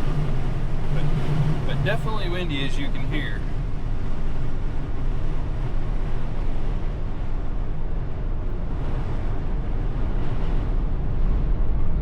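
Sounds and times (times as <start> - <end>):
engine and road hum: 0.0 - 12.0
strong wind buffeting van: 0.0 - 12.0.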